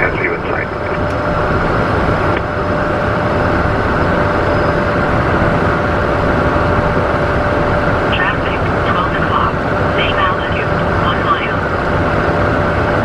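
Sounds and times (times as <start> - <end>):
jet cockpit airflow and engine noise: 0.0 - 13.0.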